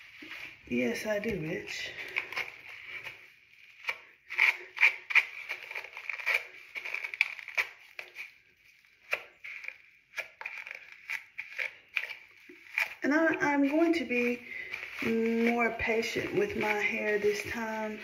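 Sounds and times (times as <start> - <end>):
scratchy rubbing of lathered hair: 0.0 - 18.0.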